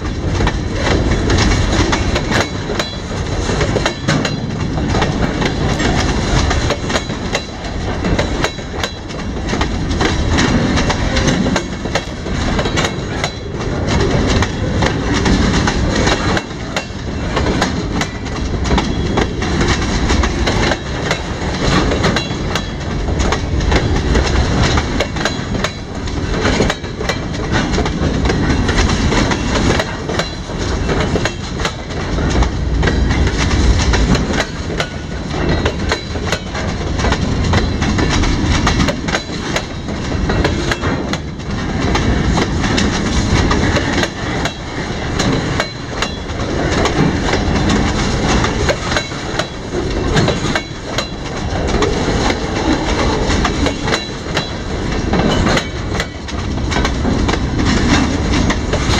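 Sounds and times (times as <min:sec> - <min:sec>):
train wheels rumbling on rail: 0:00.0 - 0:58.9
wheels clanking over rail joints: 0:00.0 - 0:58.9.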